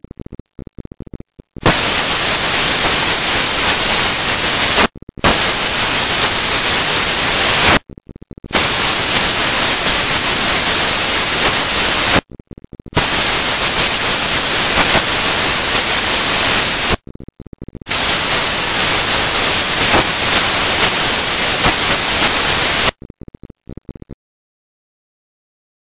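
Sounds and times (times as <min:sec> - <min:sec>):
static hiss: 0:00.0 - 0:24.2.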